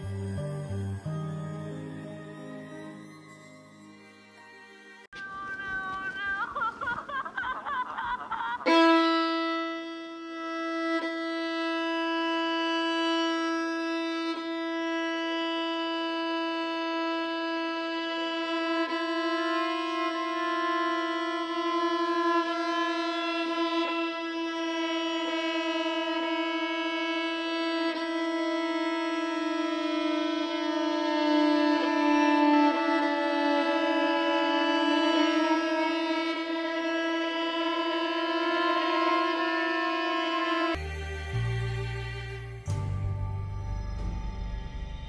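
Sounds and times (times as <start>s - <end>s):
bowed string long note: 0.0s - 4.2s, 8.7s - 45.0s.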